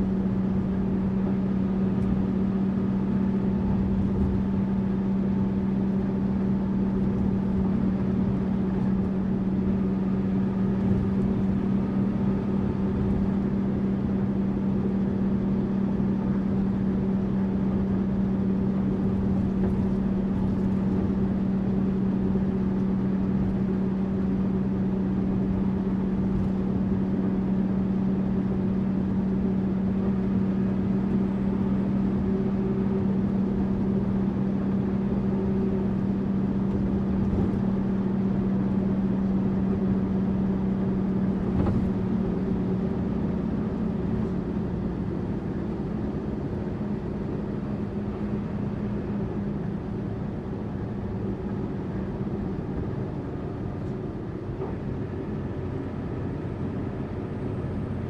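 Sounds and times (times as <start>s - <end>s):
bus engine low hum: 0.0s - 58.0s
road noise: 0.0s - 58.0s.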